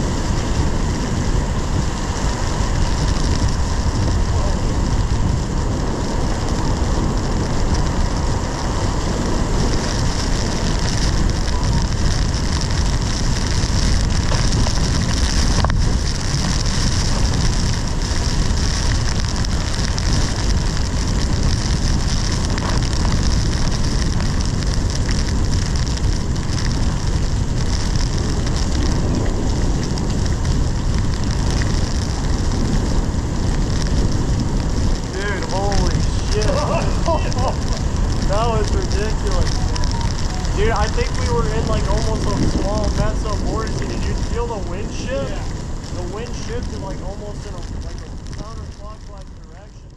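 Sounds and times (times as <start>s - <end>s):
heavy rain on car windshield: 0.0s - 49.9s
strong wind: 0.0s - 49.9s.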